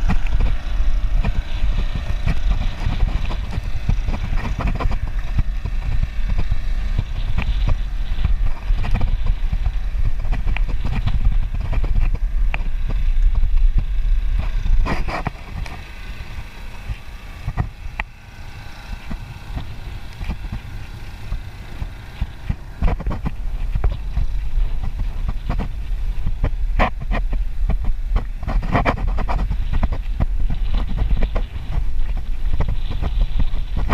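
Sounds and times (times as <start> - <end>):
bicycle clicks and rattles: 0.0 - 33.9
wind rumbling on microphone: 0.0 - 33.9.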